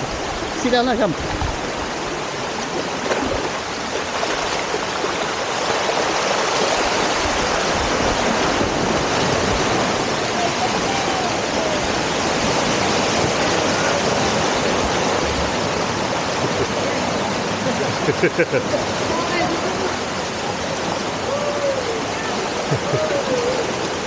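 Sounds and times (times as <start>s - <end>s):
stream running over rock: 0.0s - 24.0s
waterfall rushing: 0.0s - 24.0s.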